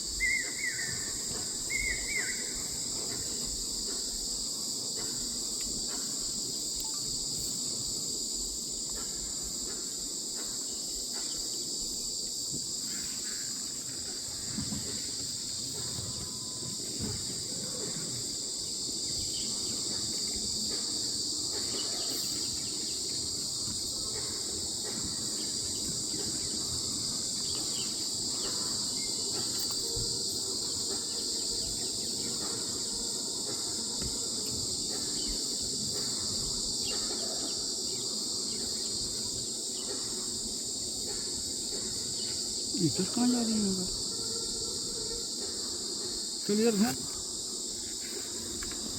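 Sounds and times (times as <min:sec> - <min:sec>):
insect chorus drone: 0:00.0 - 0:48.9.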